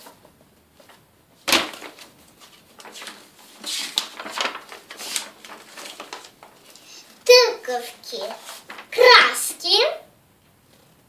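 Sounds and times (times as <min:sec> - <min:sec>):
magazine pages flipping: 0:00.0 - 0:09.4.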